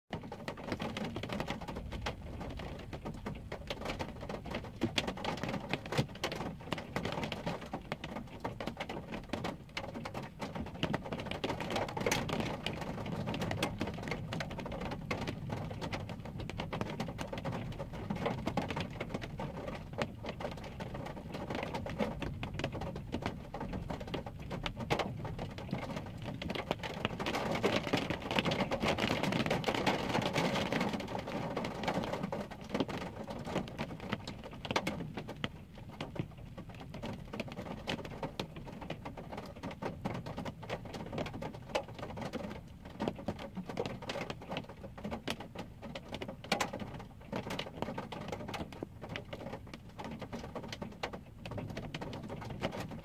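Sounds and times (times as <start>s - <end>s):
rain pattering on a car windshield: 0.1s - 53.0s.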